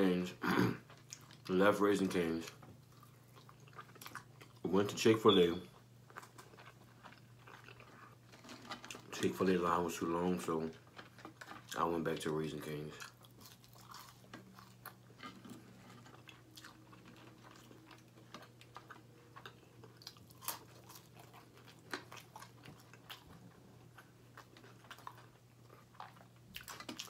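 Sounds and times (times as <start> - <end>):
low steady hum: 0.0 - 27.0
crisp chewing: 2.4 - 4.6, 5.7 - 9.5, 10.3 - 27.0.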